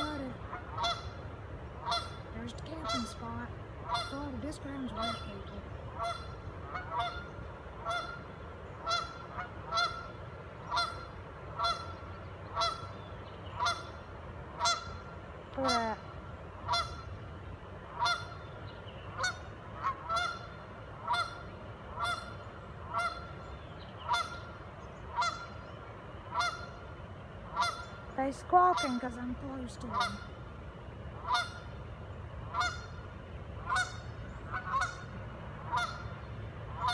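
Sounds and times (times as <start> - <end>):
geese honking: 0.0 - 30.6, 31.2 - 36.9.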